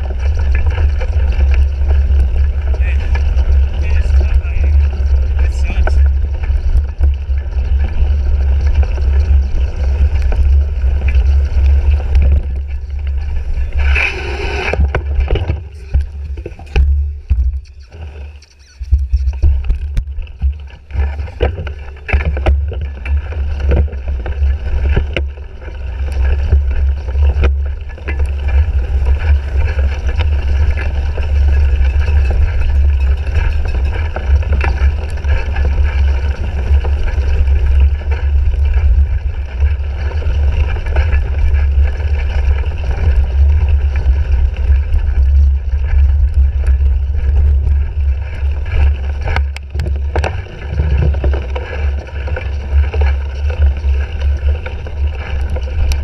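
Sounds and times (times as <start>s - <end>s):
bike rattles and knocks: 0.0s - 56.0s
wind buffeting microphone: 0.0s - 56.0s.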